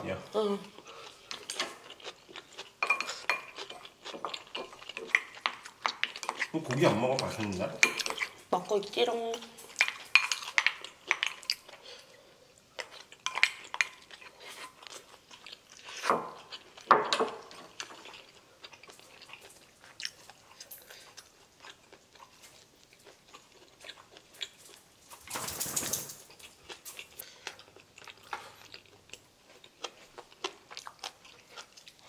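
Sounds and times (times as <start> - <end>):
chewing and crunching food: 0.6 - 32.0.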